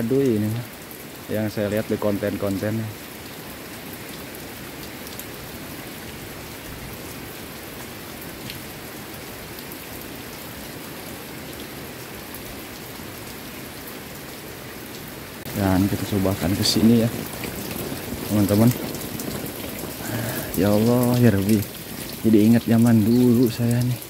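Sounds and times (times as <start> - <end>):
steady rain falling: 0.0 - 24.0
water running off eaves: 0.0 - 24.0.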